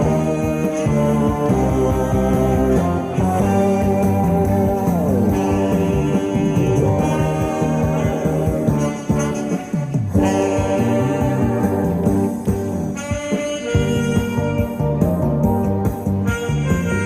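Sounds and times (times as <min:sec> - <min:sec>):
alto saxophone melody: 0:00.0 - 0:17.0
guitar accompaniment: 0:00.0 - 0:17.0.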